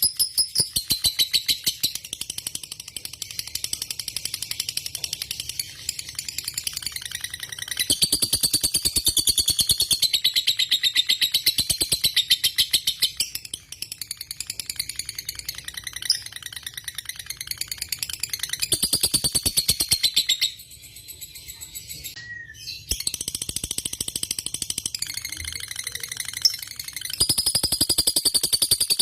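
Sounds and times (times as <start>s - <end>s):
bird chattering trill: 0.0s - 29.0s.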